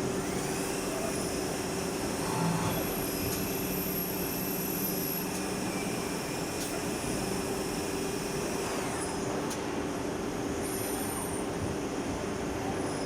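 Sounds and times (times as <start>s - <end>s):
lathe mechanical hum: 0.0s - 13.0s.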